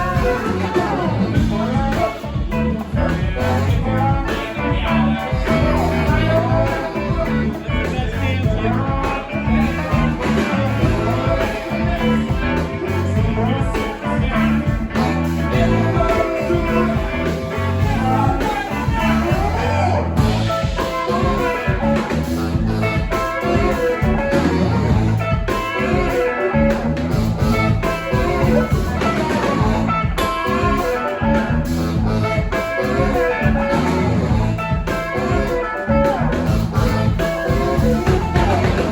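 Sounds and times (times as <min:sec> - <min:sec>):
electric guitar: 0:00.0 - 0:38.9
live blues band: 0:00.0 - 0:38.9.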